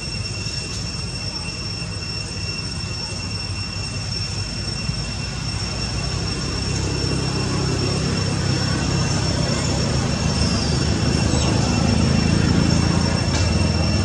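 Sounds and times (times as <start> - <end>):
high-pitched tones: 0.0 - 14.0.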